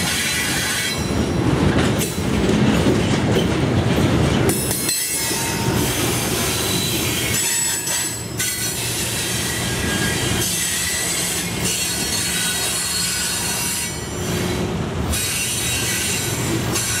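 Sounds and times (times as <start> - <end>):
rumble of wheels on rail: 0.0 - 17.0.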